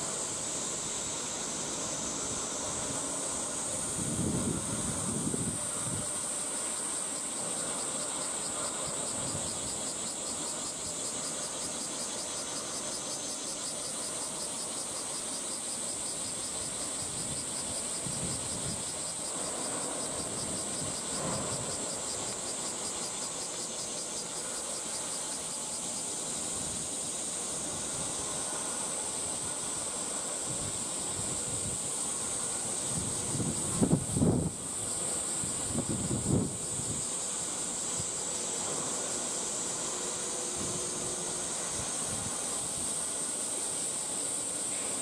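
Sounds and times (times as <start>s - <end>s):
cicadas droning: 0.0s - 45.0s.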